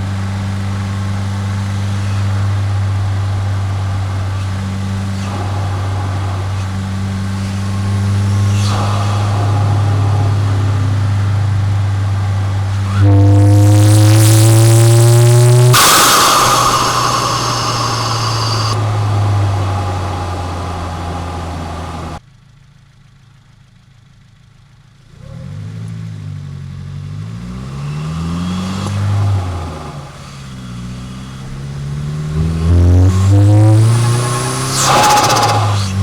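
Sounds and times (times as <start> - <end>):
turbocharged car engine revving: 0.0 - 22.2, 25.1 - 36.0.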